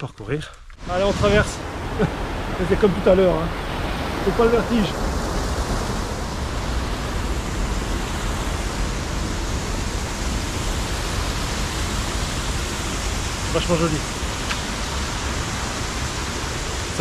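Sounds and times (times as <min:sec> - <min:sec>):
loud rushing noise: 0:00.8 - 0:17.0.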